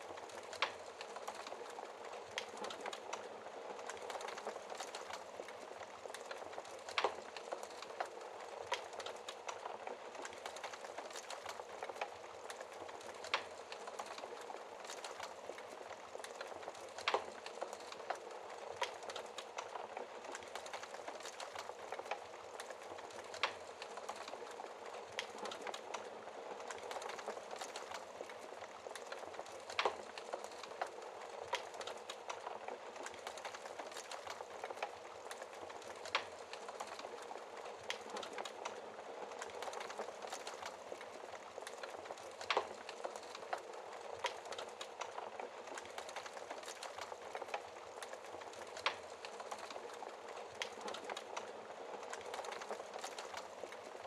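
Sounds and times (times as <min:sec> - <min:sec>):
sharp fire pops and snaps: 0:00.0 - 0:54.0.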